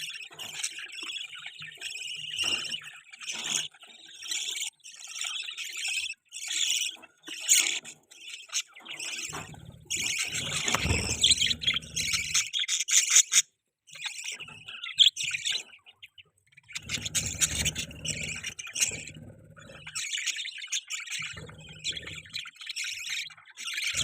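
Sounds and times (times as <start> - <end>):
budgerigars chirping and chattering: 0.0 - 24.0.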